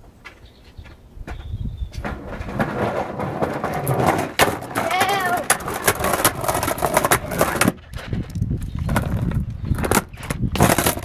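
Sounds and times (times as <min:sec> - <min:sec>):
skateboard rolling on concrete: 0:00.0 - 0:11.0
skateboard wheels clacking on joints: 0:00.0 - 0:11.0.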